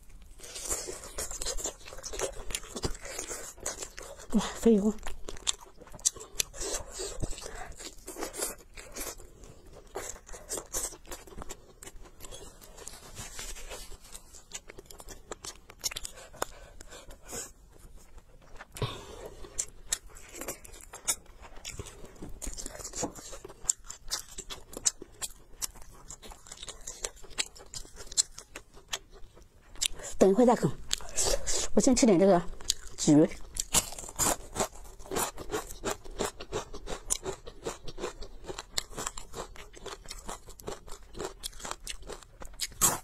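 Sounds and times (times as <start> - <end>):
chewing and gnawing: 0.0 - 43.0.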